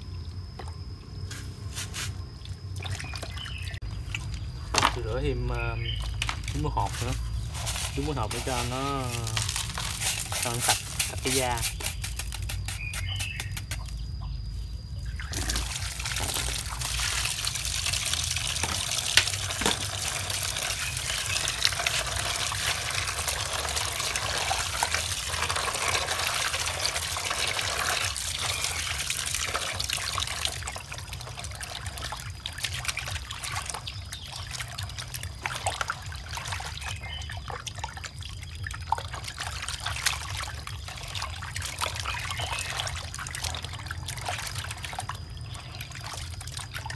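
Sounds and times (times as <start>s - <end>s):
water running and trickling: 0.0s - 14.4s, 15.0s - 46.9s
small splashes: 0.5s - 14.0s, 15.1s - 46.9s.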